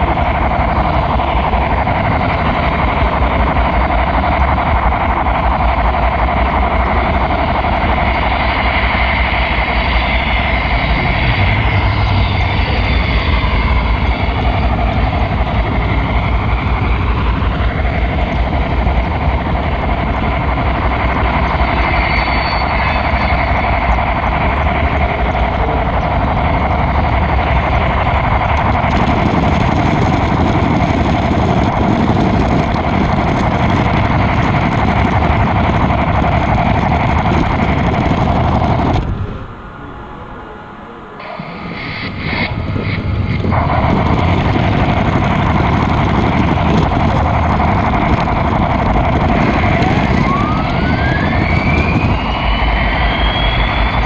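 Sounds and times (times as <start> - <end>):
faint whine: 0.0 - 54.0
model train rumble and rattle: 0.0 - 54.0.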